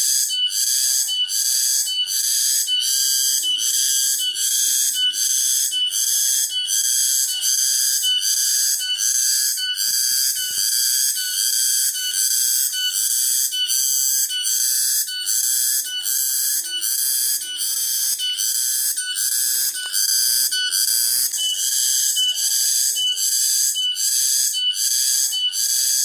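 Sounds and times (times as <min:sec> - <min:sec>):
cicada buzzing: 0:00.0 - 0:26.0.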